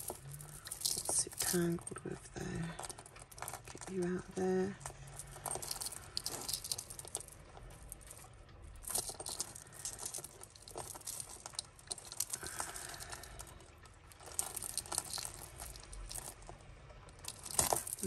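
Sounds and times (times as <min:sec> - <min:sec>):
jewellery chains and beads clinking: 0:00.0 - 0:18.0.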